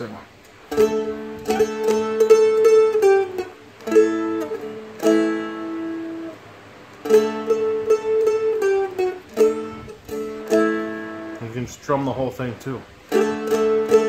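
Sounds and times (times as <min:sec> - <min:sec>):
slow picked string melody: 0:00.0 - 0:12.0, 0:13.0 - 0:14.0.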